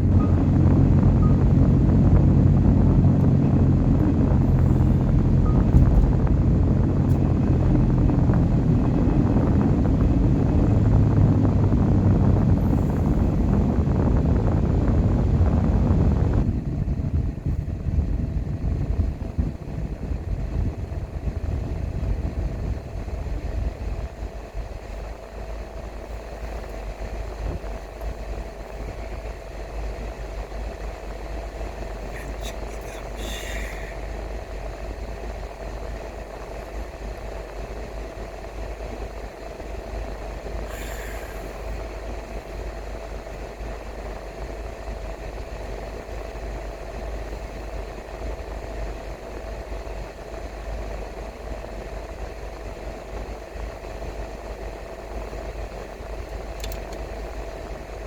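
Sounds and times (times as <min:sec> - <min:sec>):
car engine and road noise: 0:00.0 - 0:58.0
faint steady whine: 0:00.0 - 0:58.0.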